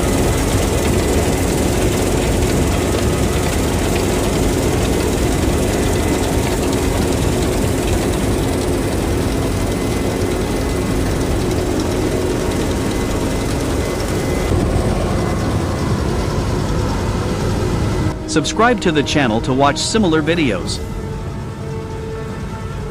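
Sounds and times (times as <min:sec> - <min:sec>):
combine harvester running: 0:00.0 - 0:22.9
faint steady tones: 0:00.0 - 0:22.9.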